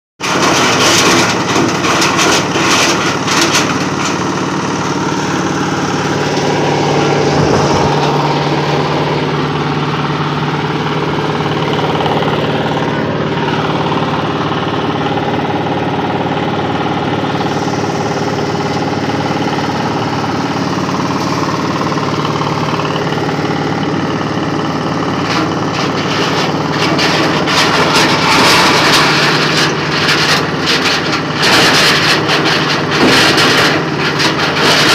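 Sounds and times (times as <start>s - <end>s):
machine clatter and rattling: 0.2s - 34.9s
motor humming: 0.3s - 34.9s.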